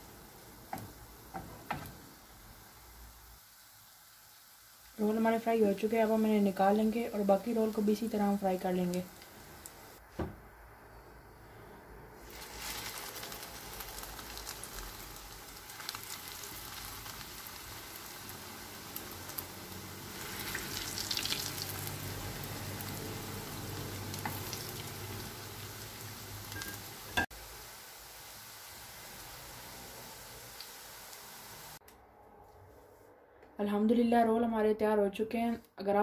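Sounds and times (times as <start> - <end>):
bread frying in hot oil: 0.0 - 10.0, 12.2 - 31.8.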